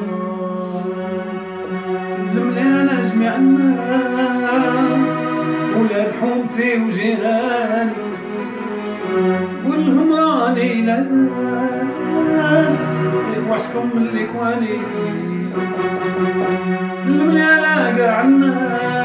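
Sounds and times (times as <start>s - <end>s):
keyboard chords and bass: 0.0s - 19.0s
keyboard lead melody bending pitch: 0.0s - 19.0s.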